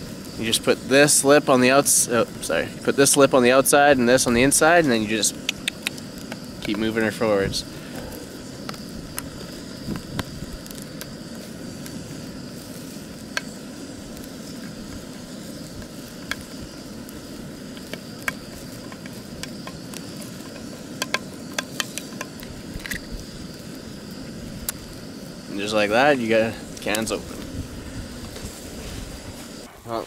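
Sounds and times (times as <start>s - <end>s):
cooking fire hissing: 0.0s - 30.0s.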